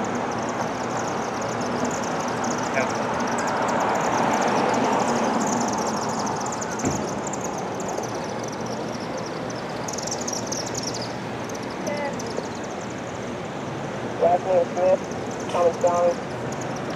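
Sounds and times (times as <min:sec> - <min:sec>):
background noise rush: 0:00.0 - 0:16.9
swifts chittering: 0:00.0 - 0:16.9.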